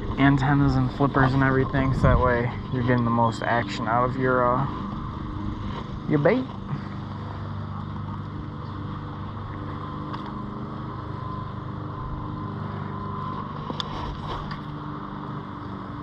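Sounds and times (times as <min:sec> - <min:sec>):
small boat motor humming: 0:00.0 - 0:16.0.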